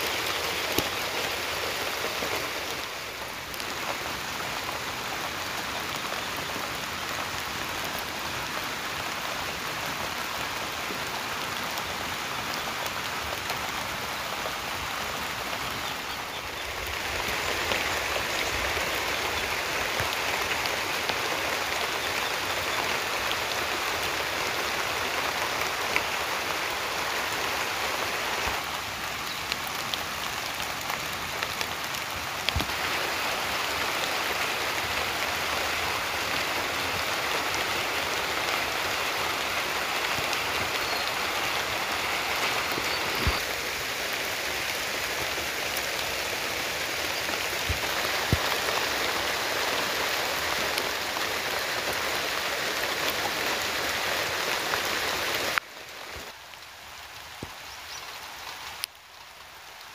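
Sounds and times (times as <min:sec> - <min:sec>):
light rain falling: 0:00.0 - 0:59.9.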